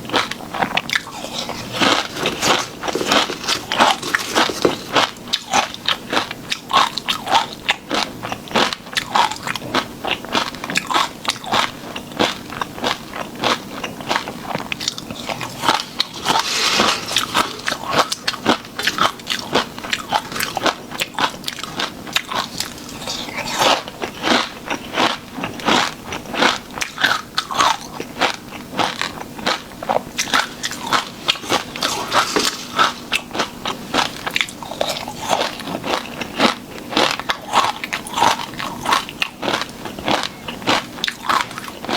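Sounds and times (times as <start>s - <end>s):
crunching and chewing: 0.0s - 41.9s.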